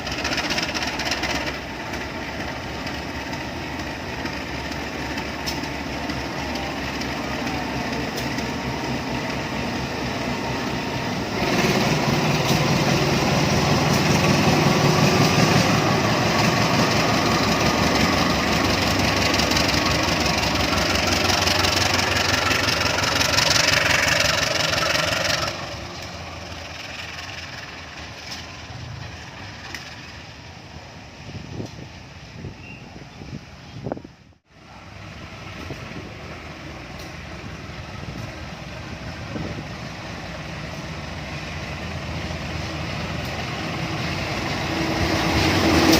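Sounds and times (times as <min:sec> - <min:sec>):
diesel train passing: 0:00.0 - 0:45.9.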